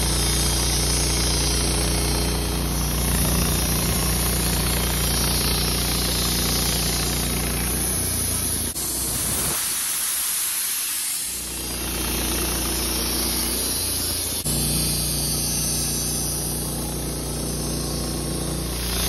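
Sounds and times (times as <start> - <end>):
band blade sawing log: 0.0 - 8.8, 11.6 - 19.0
sawmill engine humming: 0.0 - 9.5, 11.3 - 19.0.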